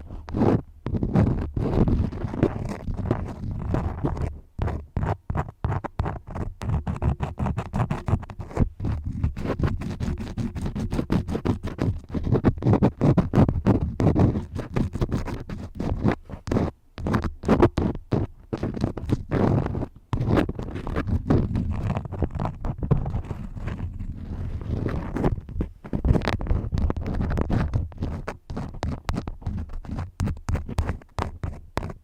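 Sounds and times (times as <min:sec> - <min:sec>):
wax crayons scratching: 0:00.0 - 0:32.0.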